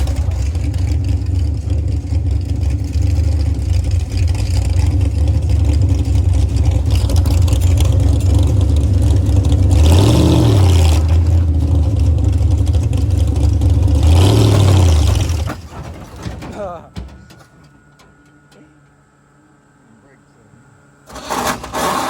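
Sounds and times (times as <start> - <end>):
monster truck engine revving: 0.0 - 17.0, 21.0 - 22.0.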